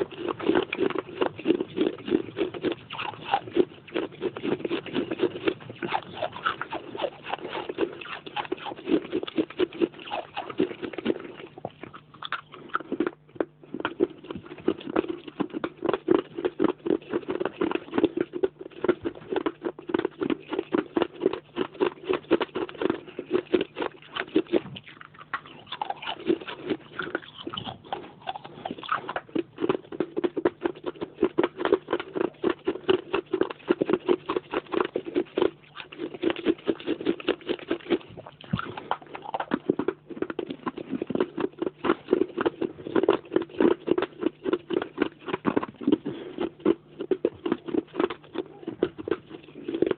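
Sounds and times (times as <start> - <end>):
person chewing crunchy clay: 0.0 - 49.9.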